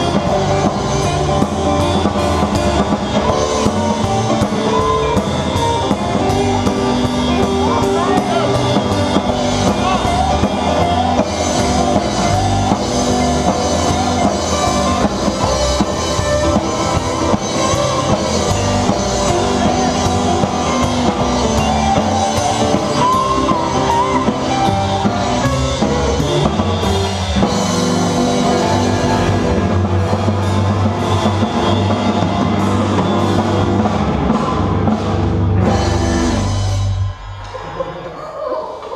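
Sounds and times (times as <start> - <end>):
live blues band: 0.0 - 37.9
drum kit: 0.0 - 38.2
electric guitar: 0.0 - 38.9.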